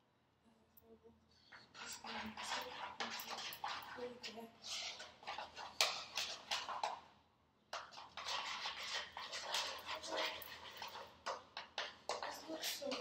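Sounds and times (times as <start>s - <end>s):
spoon stirring slime in a bowl: 1.3s - 13.0s.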